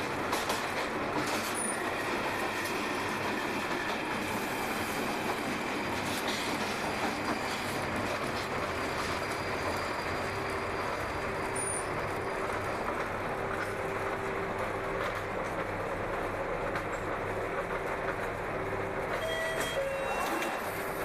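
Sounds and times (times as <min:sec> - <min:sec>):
train rumble and rail noise: 0:00.0 - 0:21.0.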